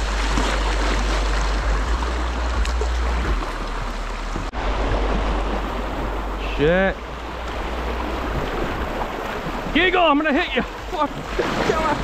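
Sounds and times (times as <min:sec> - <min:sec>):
low rumble of water: 0:00.0 - 0:12.0.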